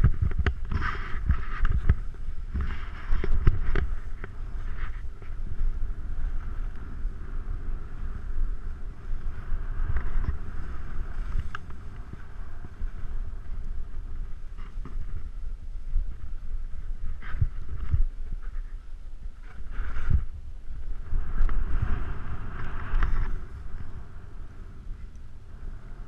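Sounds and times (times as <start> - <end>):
skis scraping through snow: 0.0 - 25.1
wind rushing over microphone: 0.0 - 26.0.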